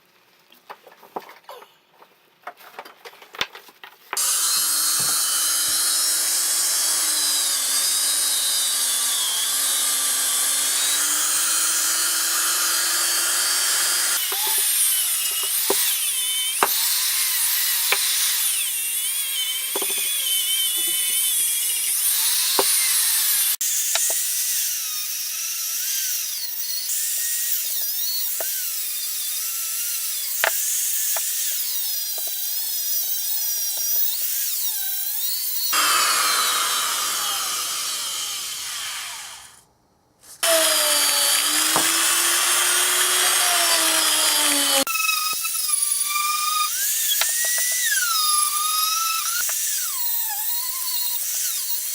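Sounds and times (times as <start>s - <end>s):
rotary power tool whining: 4.2s - 39.6s, 40.4s - 51.9s.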